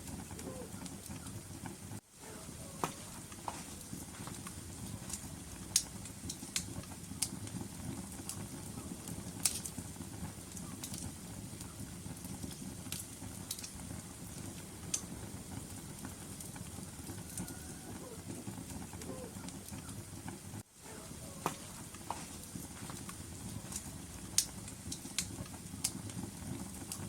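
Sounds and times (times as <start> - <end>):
burning logs crackling: 0.0 - 27.0
low rumble of flames: 0.0 - 27.0
sharp pops of fire: 0.0 - 27.0.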